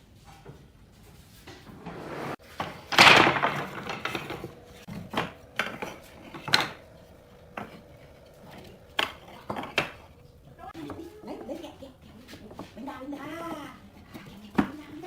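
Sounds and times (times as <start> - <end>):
wood and hand tools clattering: 1.4 - 15.0.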